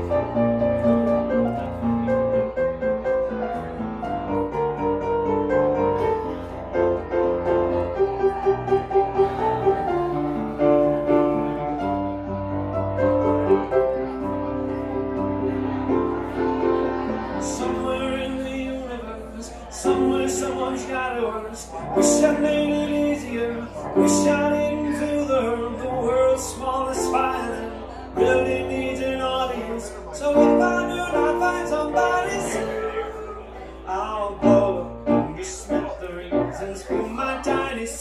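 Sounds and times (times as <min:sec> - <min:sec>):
grand piano playing: 0:00.0 - 0:38.0.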